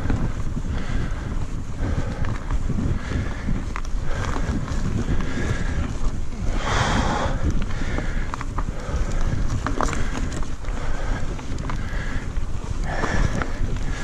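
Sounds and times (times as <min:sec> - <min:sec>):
bike clicks and rattles: 0:00.0 - 0:14.0
tyre noise on dirt: 0:00.0 - 0:14.0
wind rumbling on microphone: 0:00.0 - 0:14.0.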